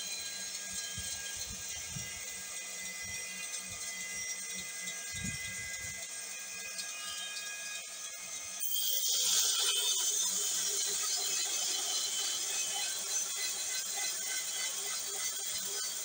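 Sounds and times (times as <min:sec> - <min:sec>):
band saw cutting wood: 0:00.0 - 0:16.0.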